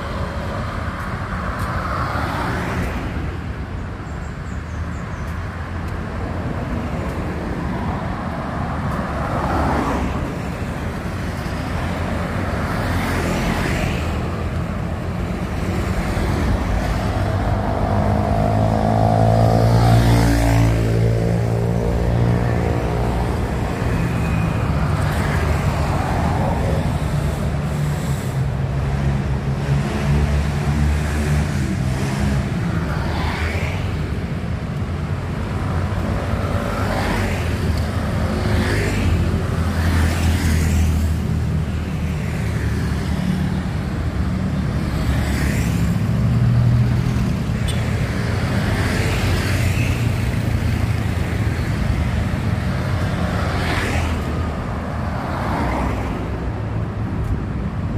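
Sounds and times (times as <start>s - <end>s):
traffic engine hum: 0.0s - 57.9s
vehicles passing: 0.0s - 57.9s.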